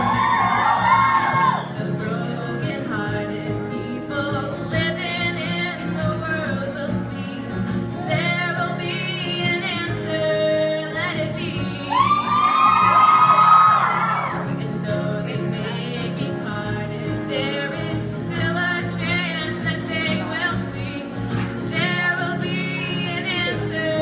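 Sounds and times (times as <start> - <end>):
louder sung line: 0.0 - 24.0
women singing wordless harmonies: 1.4 - 13.4, 14.0 - 24.0.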